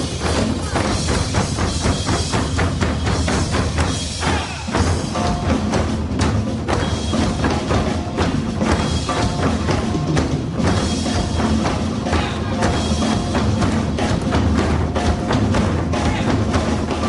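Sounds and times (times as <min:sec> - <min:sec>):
percussion-driven music: 0:00.0 - 0:17.0.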